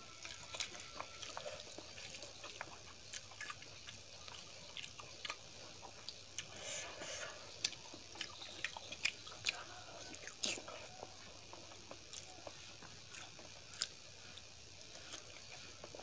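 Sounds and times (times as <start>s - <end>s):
person chewing food: 0.1s - 16.0s.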